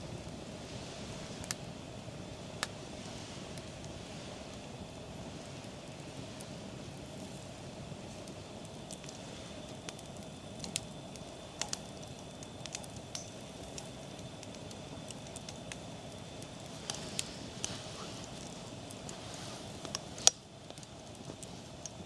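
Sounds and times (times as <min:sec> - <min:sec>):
sharp crackles and pops: 0:00.0 - 0:22.0
steady low hiss: 0:00.0 - 0:22.0.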